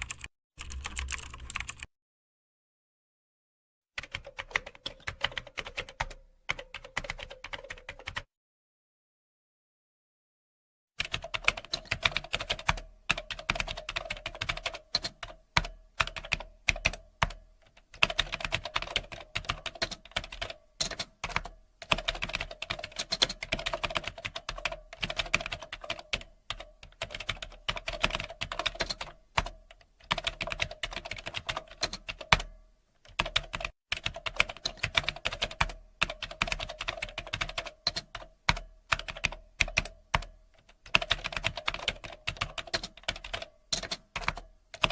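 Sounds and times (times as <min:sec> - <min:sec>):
computer keyboard typing: 0:00.0 - 0:01.9, 0:04.0 - 0:08.3, 0:11.0 - 0:44.9.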